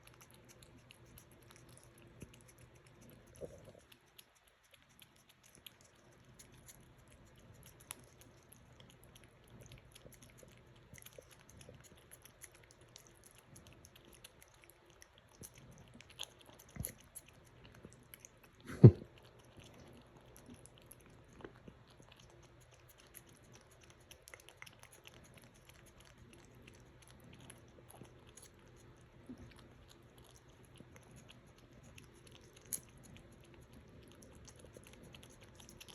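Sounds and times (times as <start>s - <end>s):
cat chewing and crunching: 0.0s - 35.9s
faint steady hum: 0.0s - 35.9s.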